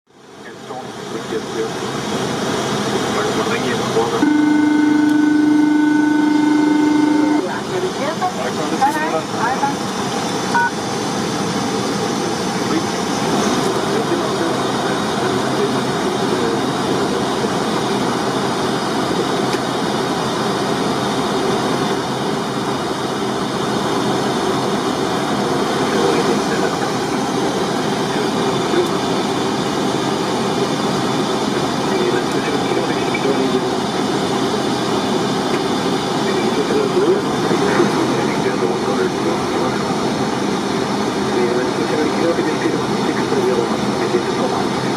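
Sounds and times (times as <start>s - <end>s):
aircraft engine noise: 0.1s - 44.9s.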